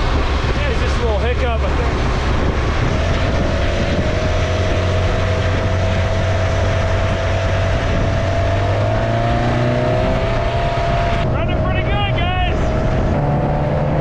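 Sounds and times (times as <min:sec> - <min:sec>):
boat engine running: 0:00.0 - 0:14.0
noisy rush: 0:00.0 - 0:14.0.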